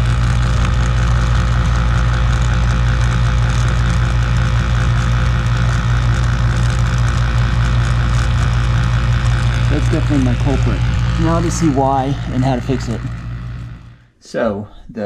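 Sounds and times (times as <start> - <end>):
dishwasher motor hum: 0.0 - 14.1.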